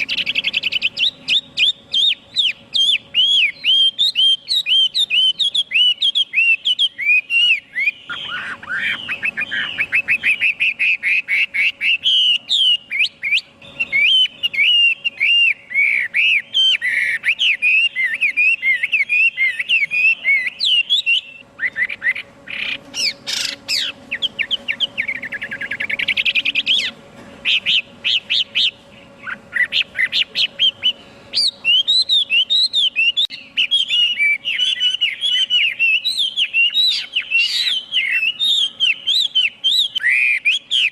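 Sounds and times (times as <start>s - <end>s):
bird singing whistled phrases: 0.0s - 40.9s.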